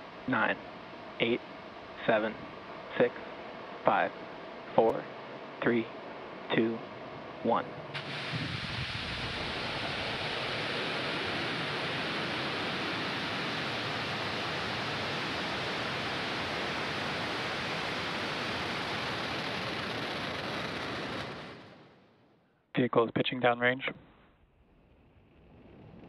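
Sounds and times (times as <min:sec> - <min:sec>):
rocket engines roaring: 0:00.0 - 0:22.0, 0:24.6 - 0:26.0.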